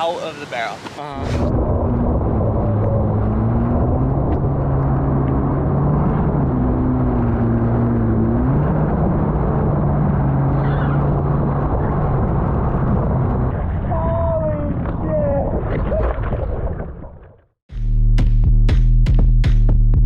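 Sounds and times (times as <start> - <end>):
rushing wind: 0.0 - 17.0
water noise: 0.0 - 17.6.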